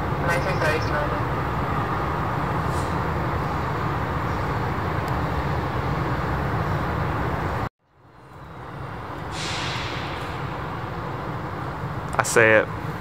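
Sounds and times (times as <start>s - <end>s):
airport noise: 0.0s - 13.0s
road traffic rumble: 0.0s - 13.0s.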